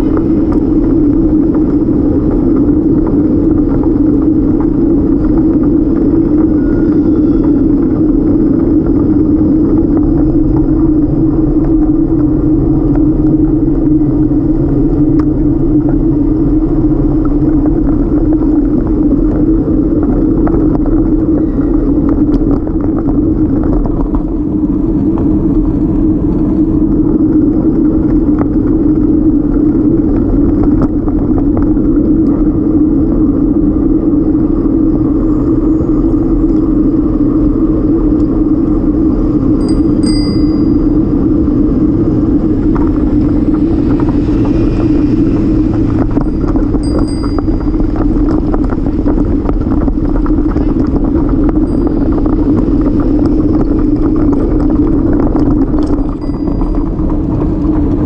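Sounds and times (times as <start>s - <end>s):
road noise: 0.0s - 58.0s
wind rumble: 0.0s - 58.0s.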